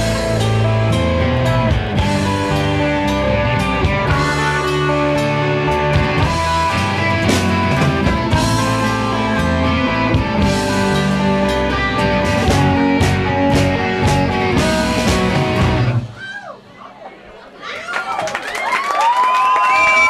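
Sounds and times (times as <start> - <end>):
live rock band playing: 0.0 - 16.2.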